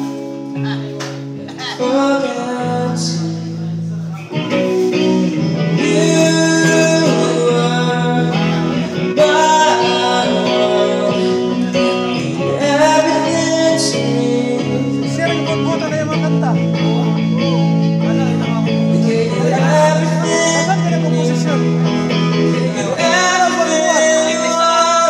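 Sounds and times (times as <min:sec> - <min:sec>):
electric guitar rock song: 0:00.0 - 0:25.0
man singing: 0:01.4 - 0:25.0.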